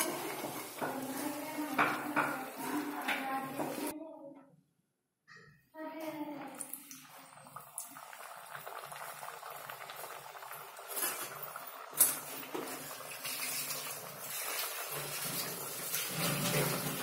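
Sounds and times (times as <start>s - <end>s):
oil sizzling in a frying pan: 0.0s - 3.9s, 6.8s - 17.0s.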